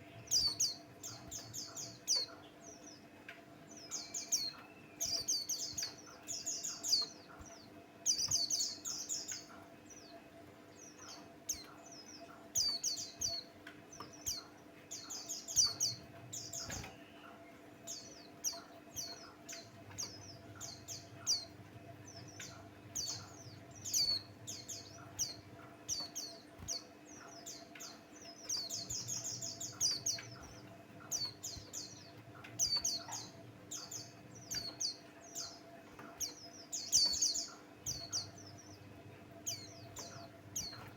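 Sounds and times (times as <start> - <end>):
bird singing high chirps: 0.0 - 3.0, 10.9 - 40.9.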